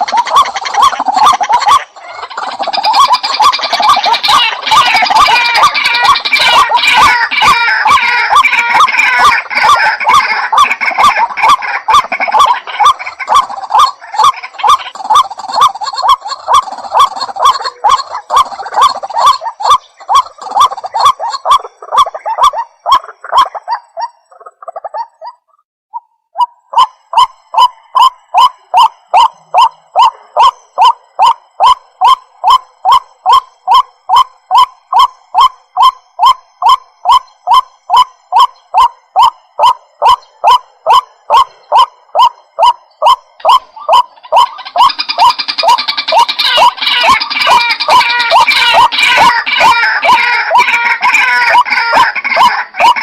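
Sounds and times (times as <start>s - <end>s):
waterhen calling: 0.0s - 53.0s.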